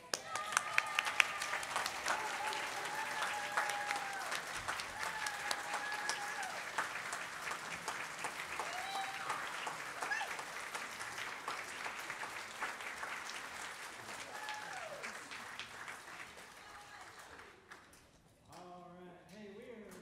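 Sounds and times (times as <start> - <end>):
congregation applauding: 0.0 - 18.0.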